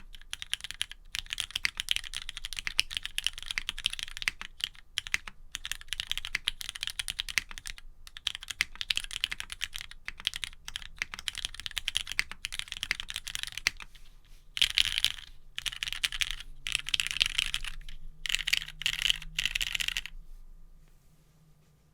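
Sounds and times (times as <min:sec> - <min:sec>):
fast typing on mechanical keyboard: 0:00.0 - 0:13.9, 0:14.6 - 0:20.1.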